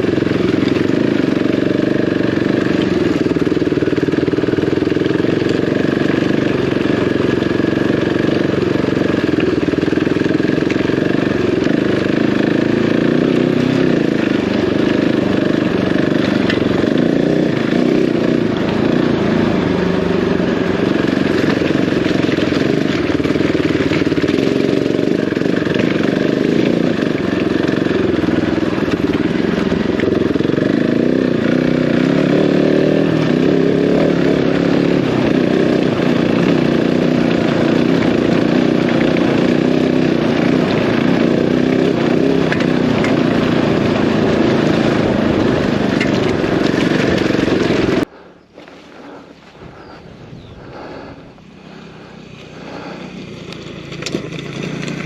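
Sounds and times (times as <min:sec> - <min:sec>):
motorcycle engine riding: 0:00.0 - 0:55.0.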